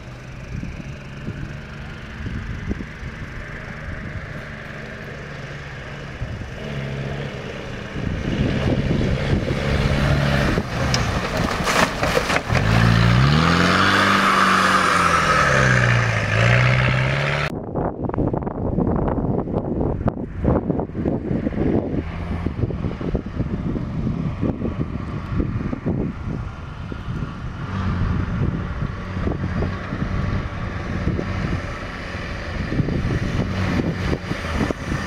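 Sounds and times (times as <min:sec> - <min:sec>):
buggy engine revving: 0:00.0 - 0:17.5, 0:20.1 - 0:35.0.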